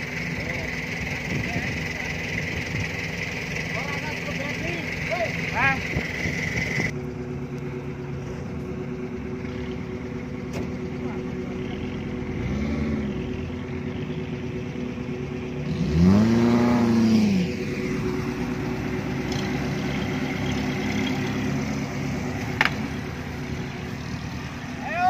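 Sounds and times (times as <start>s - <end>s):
engine revving: 0.0s - 25.0s
off-road vehicle engines running: 0.0s - 25.0s.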